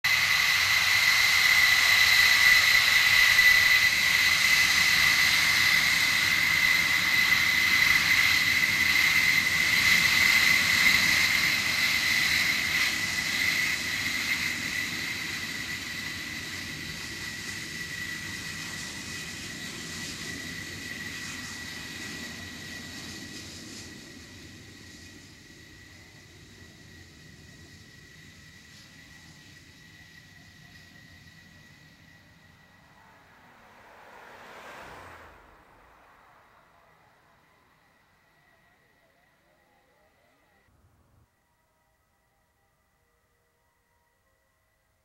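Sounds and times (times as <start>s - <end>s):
jet engines whining: 0.0s - 40.7s.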